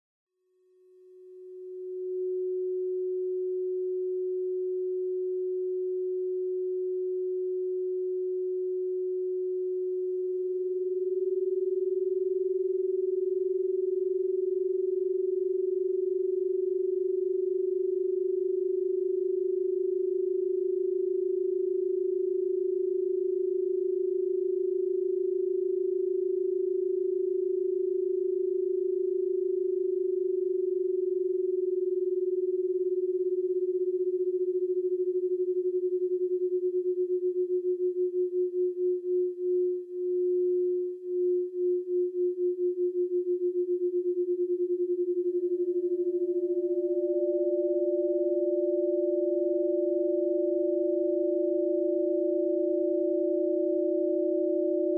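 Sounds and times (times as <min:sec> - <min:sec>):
beating sine tones: 0:01.0 - 0:54.9.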